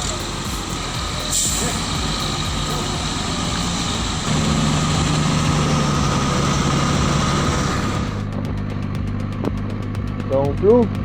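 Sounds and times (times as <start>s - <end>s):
truck engine under load: 0.0s - 10.9s.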